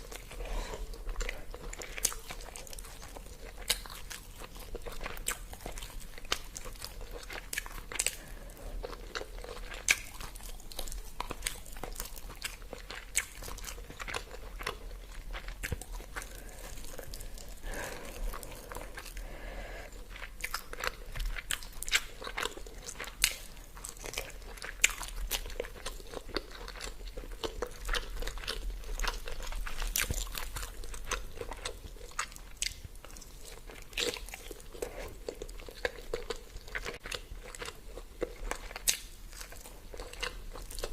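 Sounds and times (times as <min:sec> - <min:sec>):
person chewing close-up: 0:00.0 - 0:40.9.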